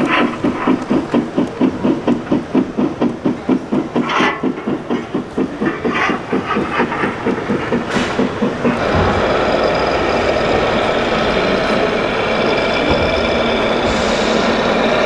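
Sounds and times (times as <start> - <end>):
steam hissing: 0.0 - 15.0
steam locomotive chuffing: 0.0 - 15.0.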